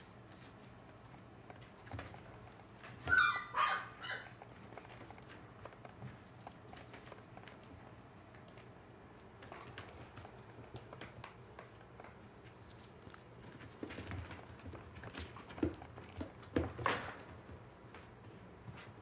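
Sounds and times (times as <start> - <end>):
puppy paws pattering and scratching: 0.0 - 19.0.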